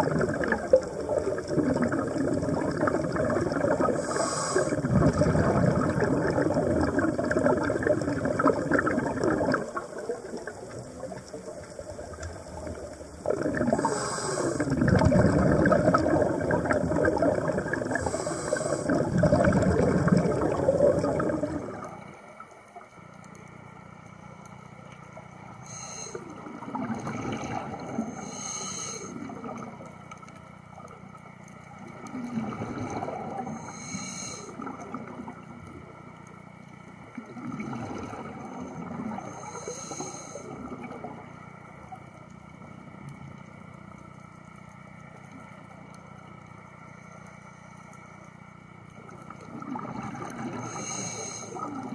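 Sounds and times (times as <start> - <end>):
underwater bubbles gurgling: 0.0 - 51.9.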